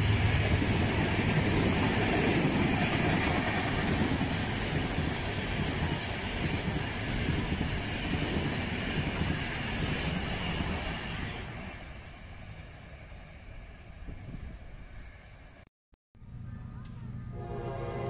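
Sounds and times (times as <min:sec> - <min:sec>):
train coaches rolling on rails: 0:00.0 - 0:15.4.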